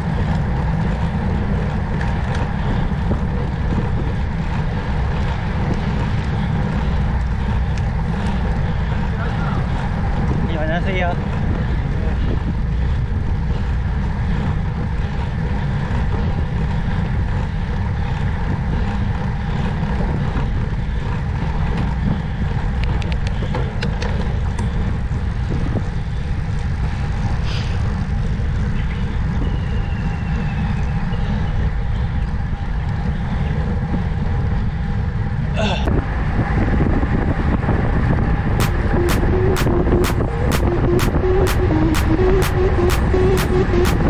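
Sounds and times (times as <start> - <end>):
wind rushing on microphone: 0.0 - 41.4.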